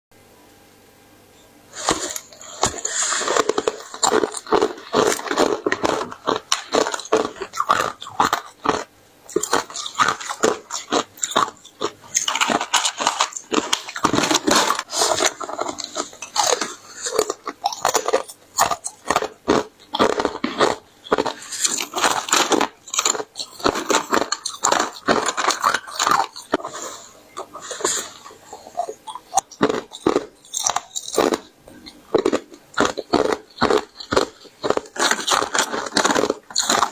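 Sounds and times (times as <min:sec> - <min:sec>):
ice being chewed: 0:01.7 - 0:36.9.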